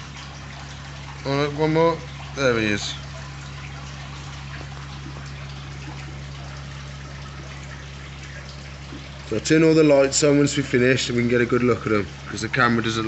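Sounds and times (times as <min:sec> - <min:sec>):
low steady hum: 0:00.0 - 0:13.0
water trickling in aquarium: 0:00.0 - 0:13.0.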